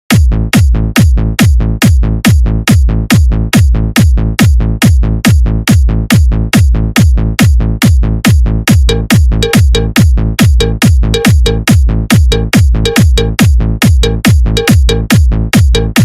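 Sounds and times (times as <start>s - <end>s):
electronic dance music: 0.1s - 16.0s
heavy kick drum with bass tail: 0.1s - 16.0s.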